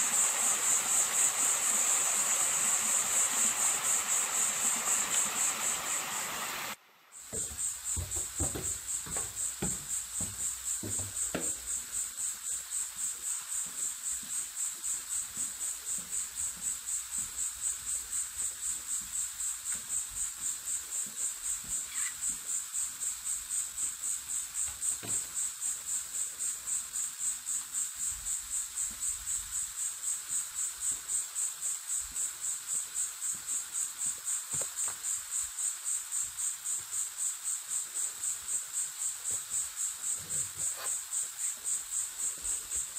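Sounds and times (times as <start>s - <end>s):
cricket chirping: 0.0s - 42.9s.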